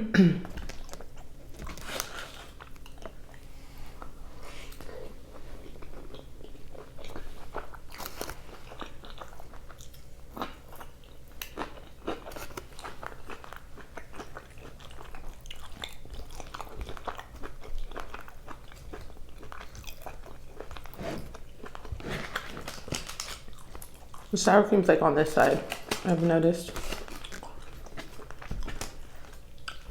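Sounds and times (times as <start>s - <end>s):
person chewing with crunches: 0.4s - 29.9s.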